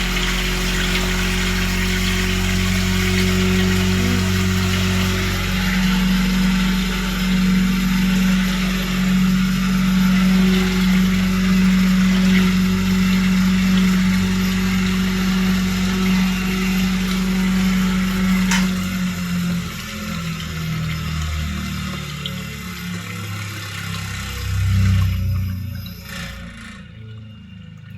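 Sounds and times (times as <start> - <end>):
washing machine motor humming: 0.0 - 27.9.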